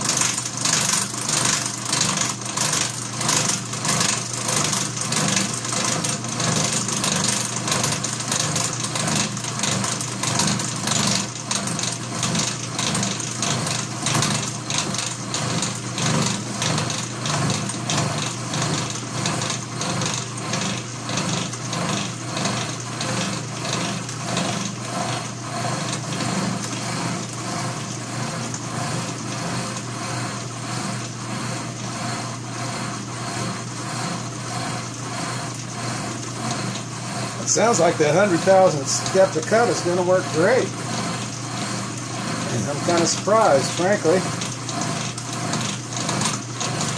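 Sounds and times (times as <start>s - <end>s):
motor hum: 0.0s - 46.9s
rhythmic metal cutting noise: 0.0s - 46.9s.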